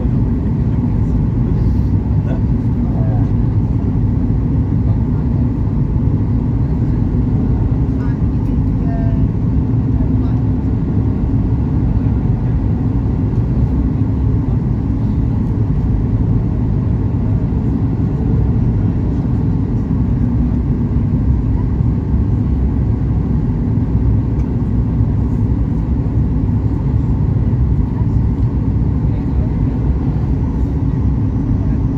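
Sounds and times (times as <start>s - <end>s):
airliner cabin engine rumble: 0.0s - 31.9s.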